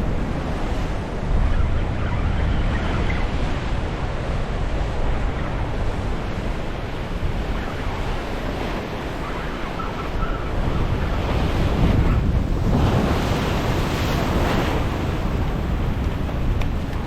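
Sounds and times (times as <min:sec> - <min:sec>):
ocean surf breaking: 0:00.0 - 0:01.6, 0:03.0 - 0:17.0
wind rumbling on microphone: 0:00.0 - 0:17.0.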